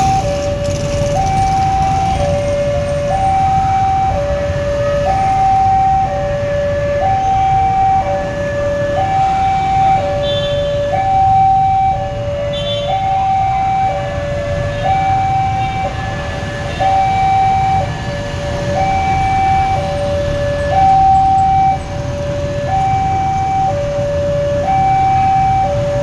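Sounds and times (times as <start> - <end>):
level-crossing two-tone alarm: 0.0 - 6.4, 7.0 - 26.0.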